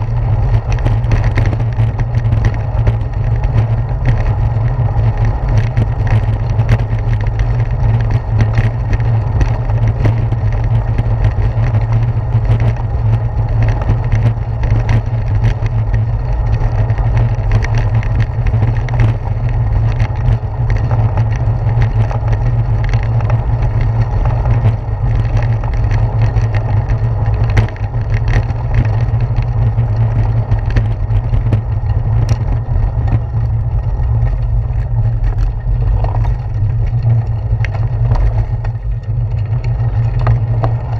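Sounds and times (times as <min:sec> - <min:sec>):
bicycle rolling over brick pavers: 0:00.0 - 0:40.9
small rattles and knocks: 0:00.0 - 0:40.9
wind rumble: 0:00.0 - 0:40.9.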